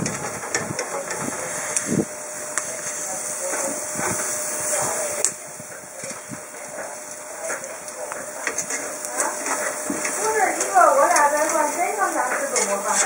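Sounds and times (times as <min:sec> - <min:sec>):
steaks sizzling on grill plate: 0:00.0 - 0:13.0.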